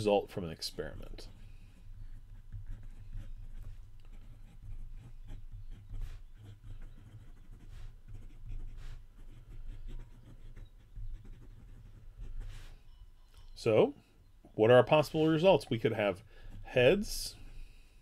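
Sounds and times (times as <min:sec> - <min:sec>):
pen scratching on paper: 0:00.0 - 0:12.9, 0:15.2 - 0:17.6.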